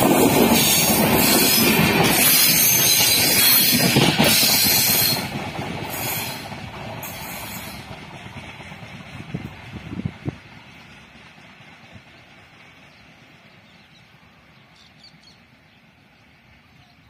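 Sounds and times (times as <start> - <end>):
train passing with rushing wheels: 0.0 - 17.0.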